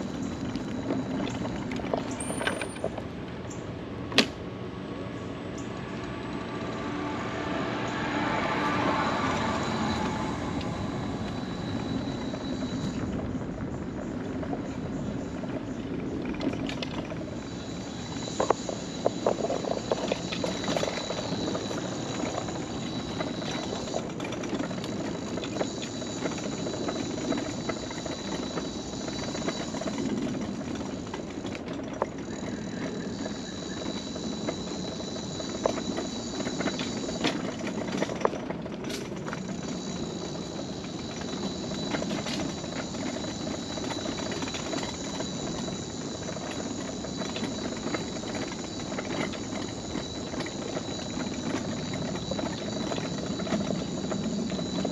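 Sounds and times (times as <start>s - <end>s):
wheels knocking on wooden planks: 0.0s - 4.4s, 8.5s - 54.9s
scooter rolling rumble: 0.0s - 54.9s.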